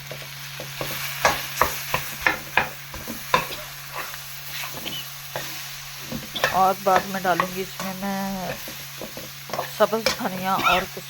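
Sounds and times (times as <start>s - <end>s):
light sizzle: 0.0s - 11.0s
spoon knocking and scraping pan: 0.0s - 11.0s.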